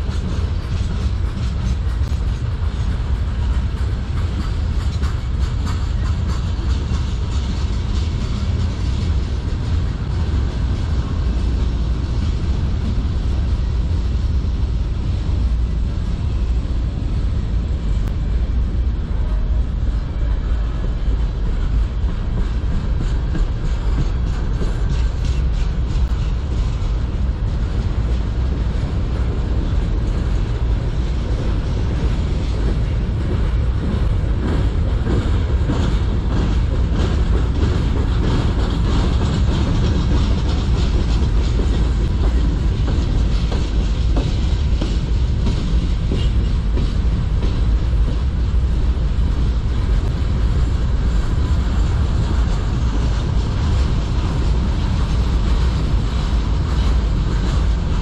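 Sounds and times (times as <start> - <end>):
wheels clacking over rail joints: 0.0 - 17.0, 17.7 - 58.0
train wheels rumbling on rails: 0.0 - 58.0.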